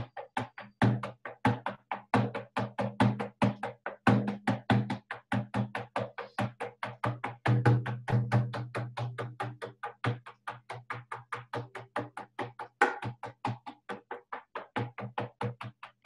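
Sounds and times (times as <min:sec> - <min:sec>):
frame drum rapid beat: 0:00.0 - 0:16.0.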